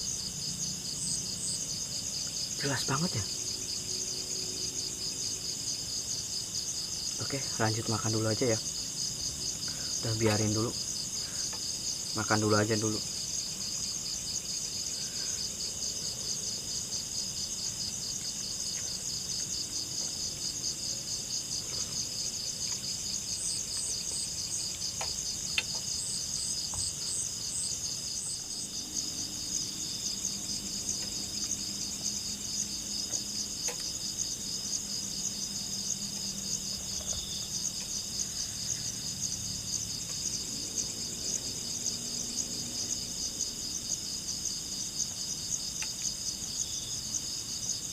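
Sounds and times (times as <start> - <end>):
crickets and night insects trilling: 0.0 - 47.9.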